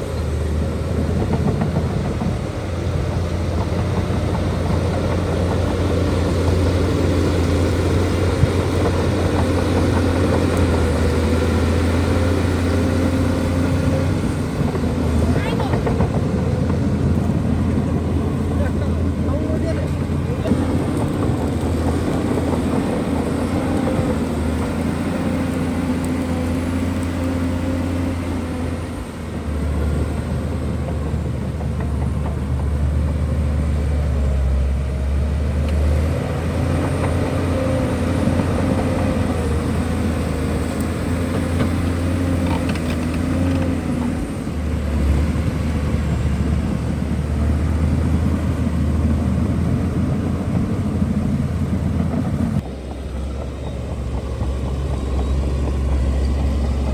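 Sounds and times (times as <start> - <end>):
bulldozer diesel engine: 0.0 - 56.9.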